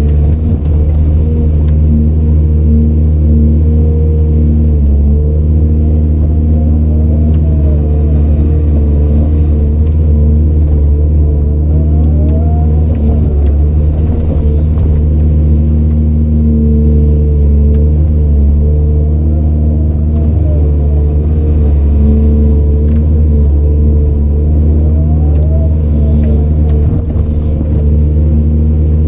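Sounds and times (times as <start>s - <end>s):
excavator diesel engine drone: 0.0s - 29.0s
faint whine: 0.0s - 29.0s.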